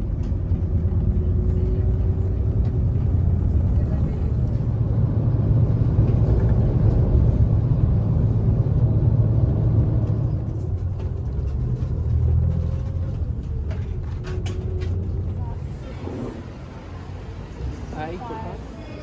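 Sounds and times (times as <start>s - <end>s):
car road noise: 0.0s - 19.0s.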